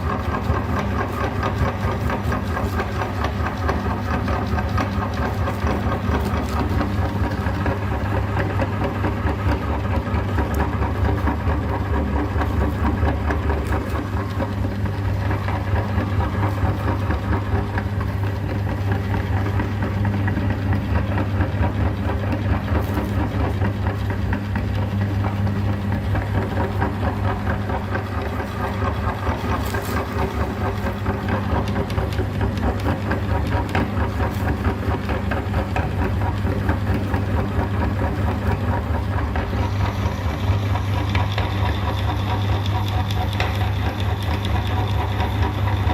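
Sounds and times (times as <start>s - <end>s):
meat grinder motor running: 0.0s - 45.9s.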